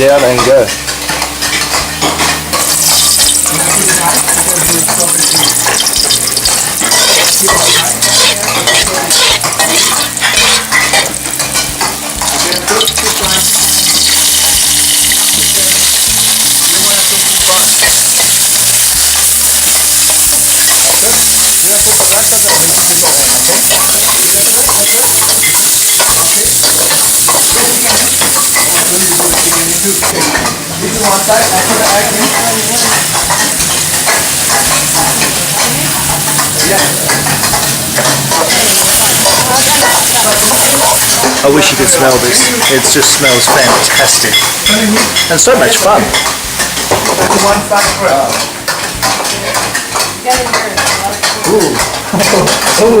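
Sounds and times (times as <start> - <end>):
food sizzling in a wok: 0.0 - 53.0
spatula scraping a wok: 0.4 - 53.0.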